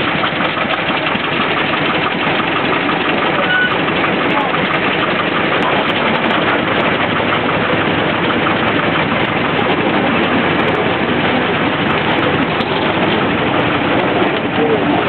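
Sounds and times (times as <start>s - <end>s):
small locomotive running: 0.0s - 15.0s.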